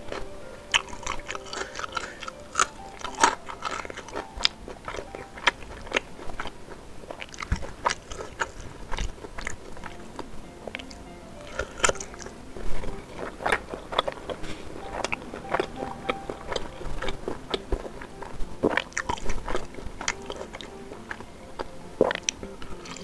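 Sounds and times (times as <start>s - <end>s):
close chewing with mouth clicks: 0.0s - 23.0s.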